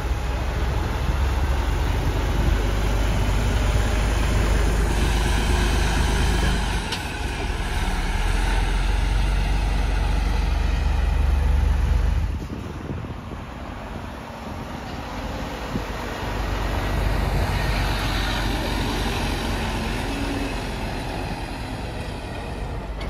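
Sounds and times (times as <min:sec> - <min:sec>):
truck diesel engine rumbling: 0:00.0 - 0:23.0.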